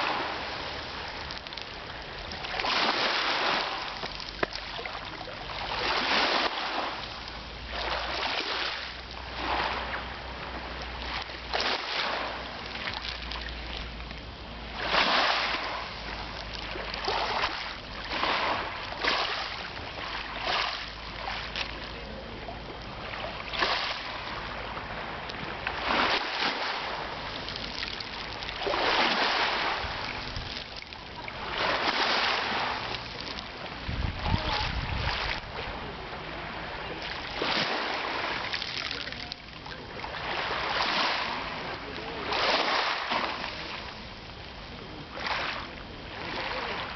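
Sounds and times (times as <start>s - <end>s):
sea waves breaking: 0.0s - 46.9s.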